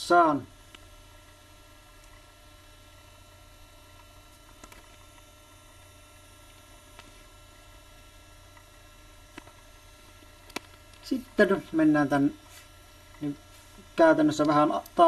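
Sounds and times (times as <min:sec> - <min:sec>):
faint whine: 0:00.0 - 0:15.0
low electrical hum: 0:00.0 - 0:15.0.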